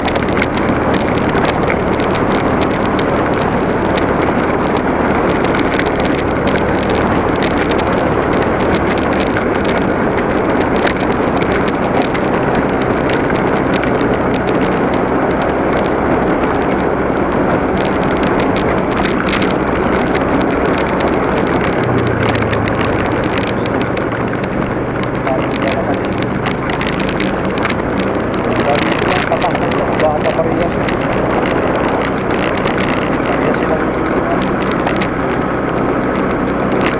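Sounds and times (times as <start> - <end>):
motorcycle engine running: 0.0 - 36.9
small clicks and rattles: 0.0 - 36.9
wind and road noise: 0.0 - 36.9.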